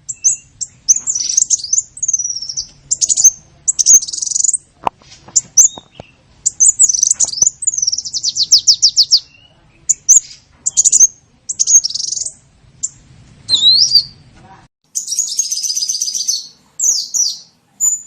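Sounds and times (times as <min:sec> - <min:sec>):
small bird chirps and twitters: 0:00.0 - 0:04.7, 0:05.3 - 0:14.3, 0:14.9 - 0:18.0.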